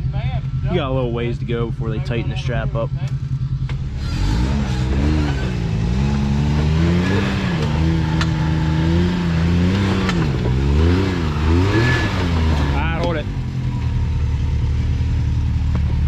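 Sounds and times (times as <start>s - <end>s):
utility vehicle engine revving: 0.0s - 16.0s.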